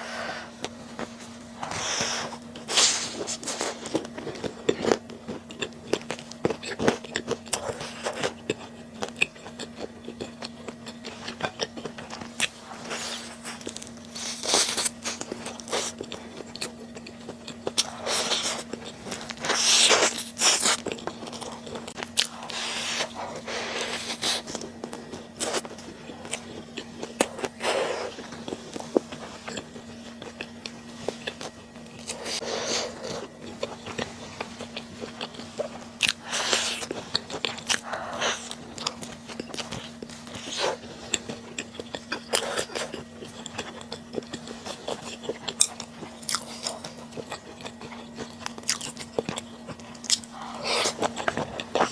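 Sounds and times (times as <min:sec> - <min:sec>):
faint steady hum: 0:00.0 - 0:51.9
wet chewing and biting: 0:00.6 - 0:51.9.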